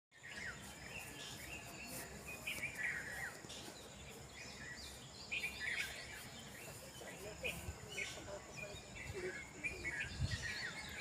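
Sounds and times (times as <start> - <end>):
birds chirping and calling: 0.1 - 11.0.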